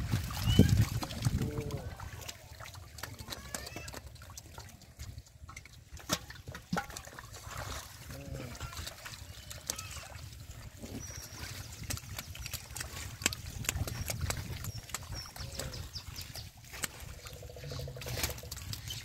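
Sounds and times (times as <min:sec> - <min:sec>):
hands splashing in water: 0:00.0 - 0:05.2, 0:05.9 - 0:19.0
fish slapping wetly: 0:00.0 - 0:19.0.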